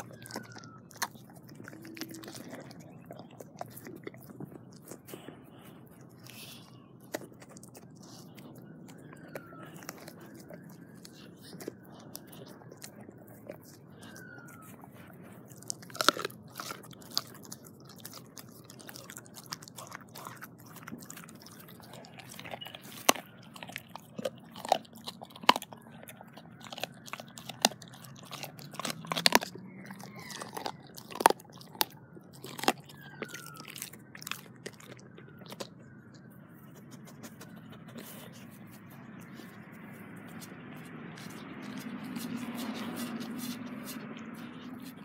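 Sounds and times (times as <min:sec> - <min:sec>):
dog crunching bone: 0:00.0 - 0:45.0.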